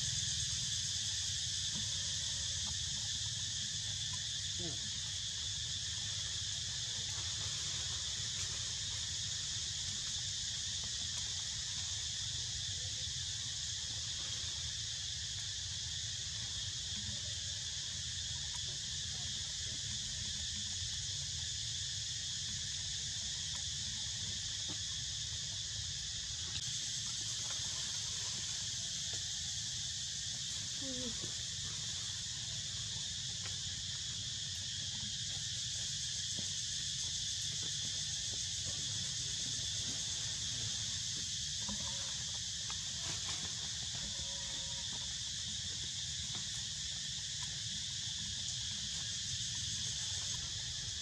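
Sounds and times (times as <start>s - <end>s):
insects buzzing and trilling: 0.0s - 51.0s.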